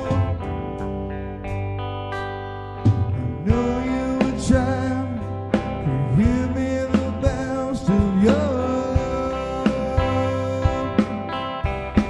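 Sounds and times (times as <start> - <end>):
sung vocals: 0.0 - 1.1, 2.9 - 12.0
guitar: 0.0 - 12.0
steady bass: 0.0 - 12.0.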